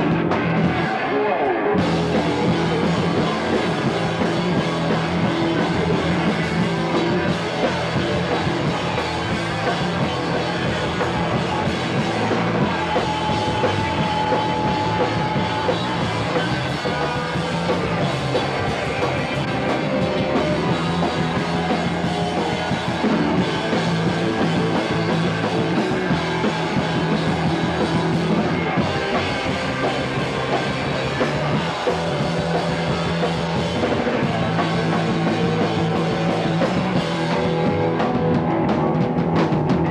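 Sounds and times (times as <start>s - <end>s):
drum kit playing: 0.0s - 1.1s, 1.8s - 39.9s
punk rock music: 0.0s - 39.9s.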